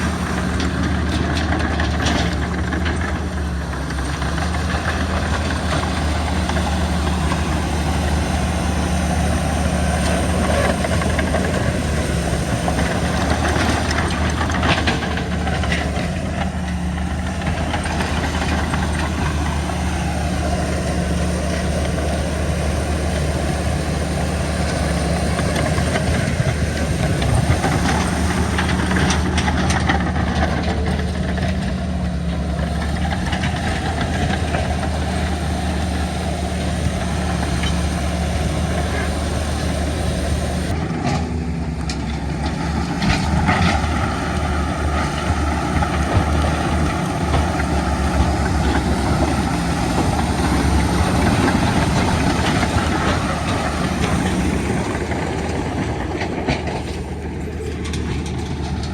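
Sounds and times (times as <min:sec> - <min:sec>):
diesel engine humming: 0:00.0 - 0:58.9.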